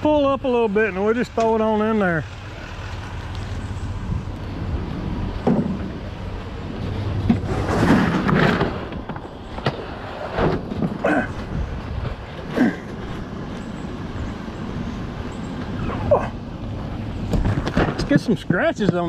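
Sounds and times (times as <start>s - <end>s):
engine idling low rumble: 0.0s - 19.0s.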